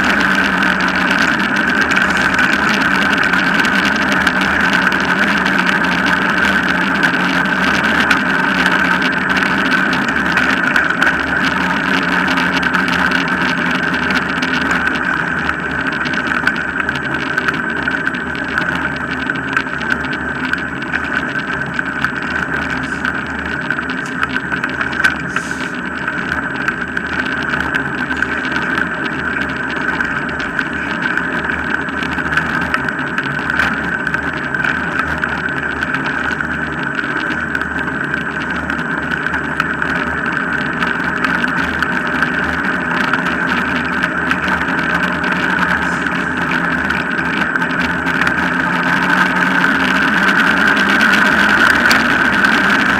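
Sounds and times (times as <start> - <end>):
constant high hum: 0.0 - 52.9
wheels rolling on tarmac: 0.0 - 52.9.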